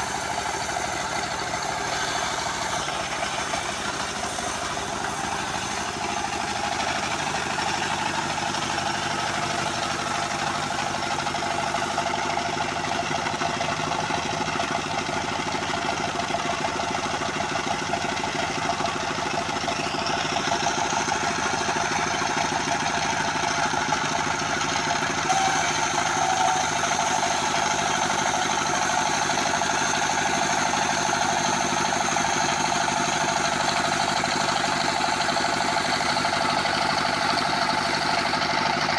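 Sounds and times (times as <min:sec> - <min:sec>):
high saw whine: 0:00.0 - 0:12.6, 0:18.6 - 0:38.9
band sawmill engine hum: 0:00.0 - 0:38.9.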